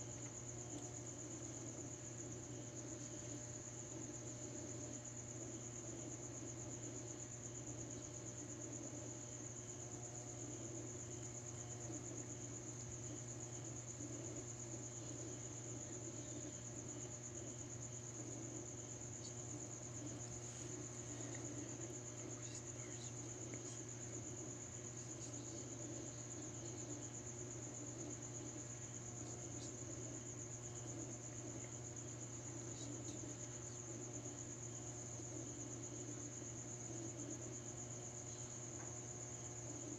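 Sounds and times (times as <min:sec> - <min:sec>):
crickets trilling: 0:00.0 - 0:39.9
low steady hum: 0:00.0 - 0:39.9.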